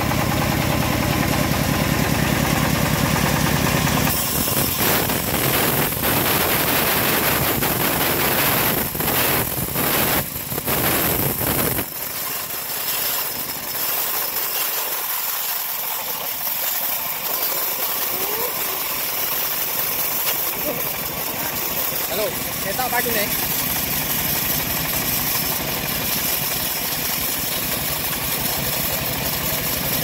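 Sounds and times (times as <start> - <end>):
bandsaw blade cutting log: 0.0 - 30.0
machine drive droning: 0.0 - 30.0.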